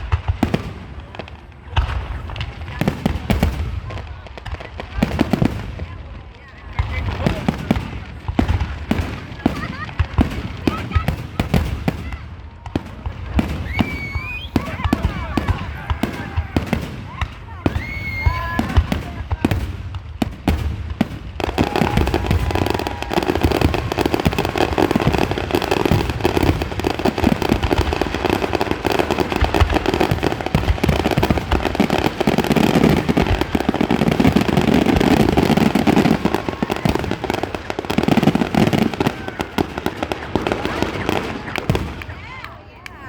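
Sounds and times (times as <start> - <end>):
fireworks bangs and crackling: 0.0 - 43.0.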